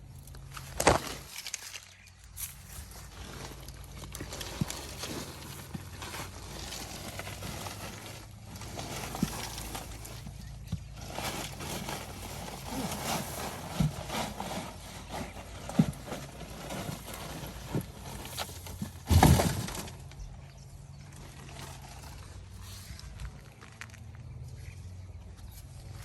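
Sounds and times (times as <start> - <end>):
soil and tubers knocking and scraping: 0.0 - 26.0.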